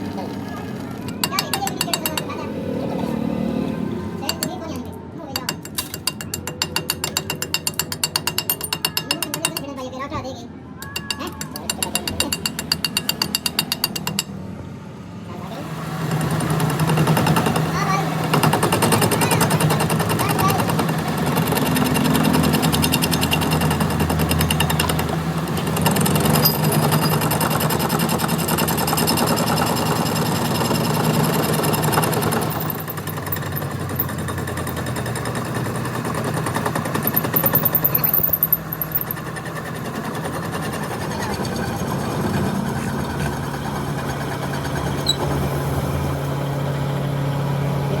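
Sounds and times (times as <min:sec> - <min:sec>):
machinery rattling: 0:00.0 - 0:10.1, 0:10.8 - 0:14.5, 0:15.3 - 0:46.7.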